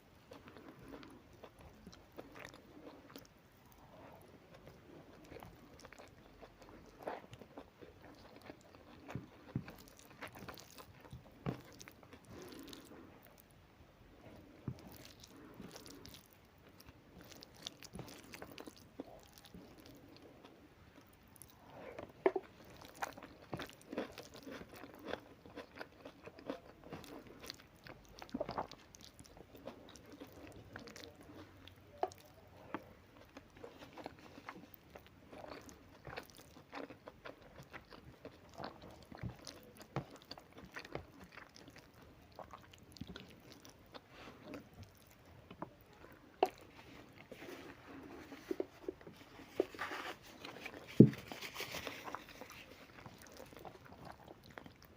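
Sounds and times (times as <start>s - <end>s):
person chewing food: 0.0s - 54.9s
food crunching: 4.5s - 13.5s, 14.4s - 54.9s.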